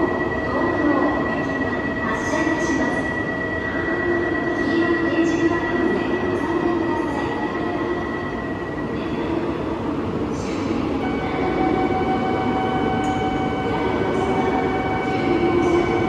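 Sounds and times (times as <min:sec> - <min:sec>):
steady high tone: 0:00.0 - 0:09.8, 0:10.6 - 0:16.0
train equipment hum and rumble: 0:00.0 - 0:16.0.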